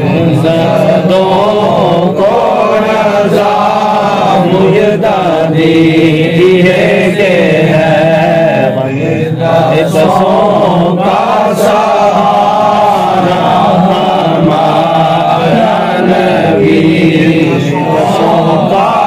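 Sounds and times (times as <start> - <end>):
person chanting: 0.0 - 19.0.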